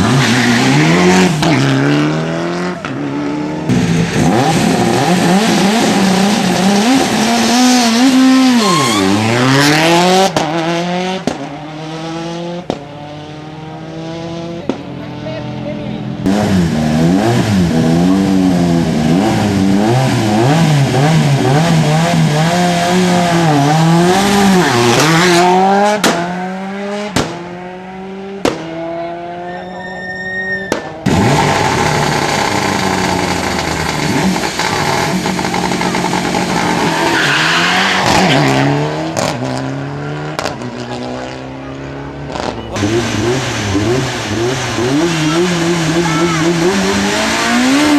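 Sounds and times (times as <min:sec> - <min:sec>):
rally car engine accelerating: 0:00.0 - 0:47.9.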